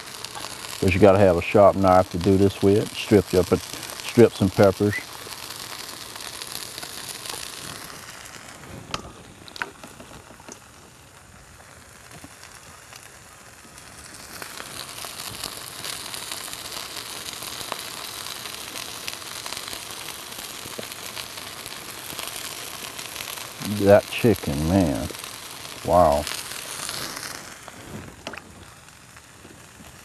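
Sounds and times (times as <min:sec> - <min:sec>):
chicken sizzling on griddle: 0:00.0 - 0:30.0.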